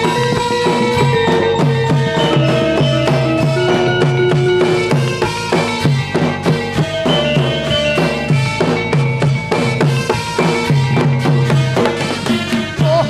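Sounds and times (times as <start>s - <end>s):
drums beating quick rhythm: 0.0s - 13.0s
melody of held notes: 0.0s - 13.0s.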